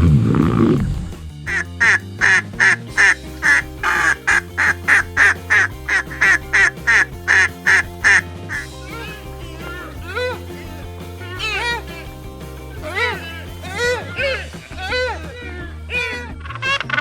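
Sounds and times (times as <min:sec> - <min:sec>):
soft background music: 0:00.1 - 0:17.0
duck quacking: 0:01.5 - 0:17.0.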